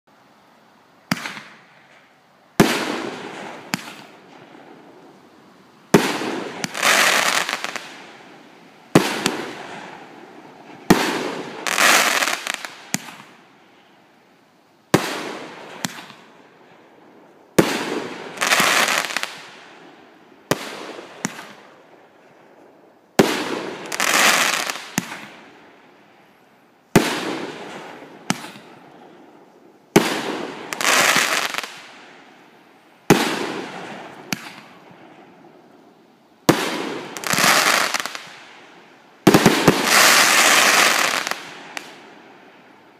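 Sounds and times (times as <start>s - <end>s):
firework bursts overhead: 1.0s - 5.2s, 5.8s - 13.5s, 14.9s - 16.8s, 17.5s - 22.2s, 23.2s - 25.6s, 26.9s - 32.4s, 33.0s - 35.4s, 36.4s - 42.9s.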